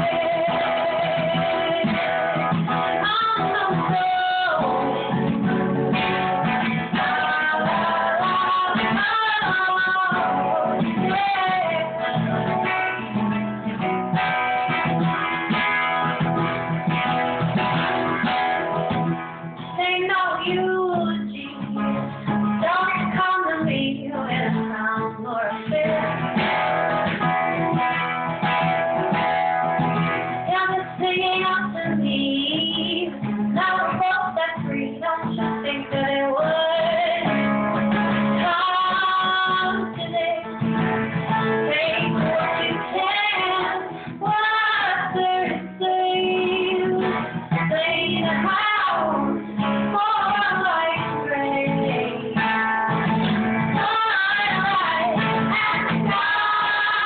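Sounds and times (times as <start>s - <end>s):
woman singing: 0.0s - 13.2s, 19.6s - 27.2s, 30.4s - 57.0s
acoustic guitar: 0.0s - 57.0s.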